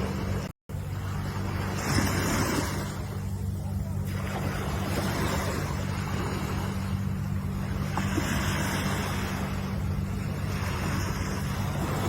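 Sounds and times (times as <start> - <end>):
low surf rumble: 0.0 - 12.0
ocean waves breaking: 0.0 - 12.0.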